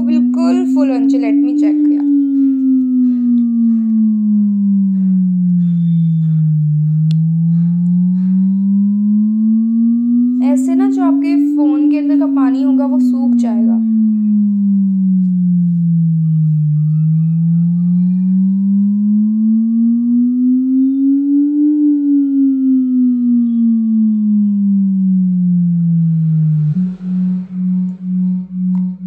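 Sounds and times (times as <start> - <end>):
low gliding tone from phone speaker: 0.0 - 29.0
pulsing steady tone: 0.0 - 29.0.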